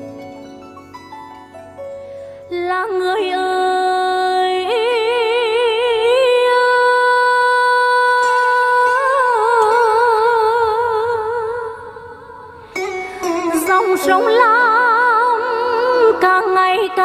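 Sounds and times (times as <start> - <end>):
woman singing with vibrato: 2.5 - 17.0.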